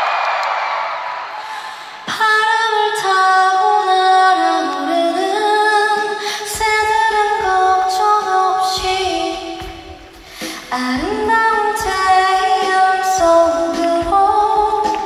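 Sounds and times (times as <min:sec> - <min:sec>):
woman singing a cappella: 0:02.1 - 0:15.0.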